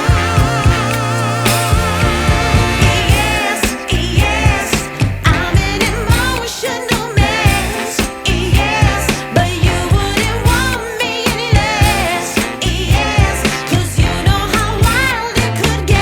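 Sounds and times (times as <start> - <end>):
pop-soul song with vibrato singing: 0.0 - 16.0.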